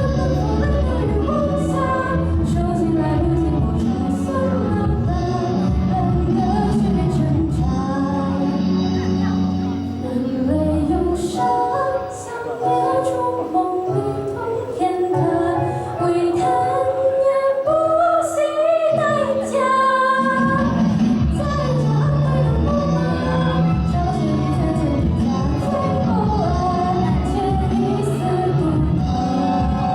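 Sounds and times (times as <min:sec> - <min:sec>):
instrumental accompaniment: 0:00.0 - 0:29.9.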